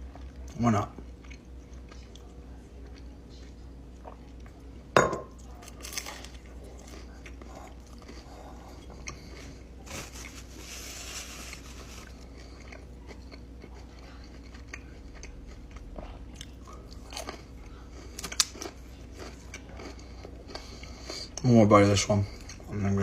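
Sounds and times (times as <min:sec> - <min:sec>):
person chewing: 0:00.1 - 0:03.1, 0:05.6 - 0:21.4.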